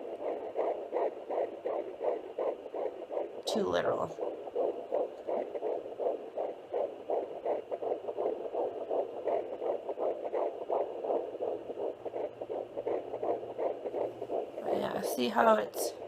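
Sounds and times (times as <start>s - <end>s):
fetal heartbeat pulses through speaker: 0.0s - 16.0s.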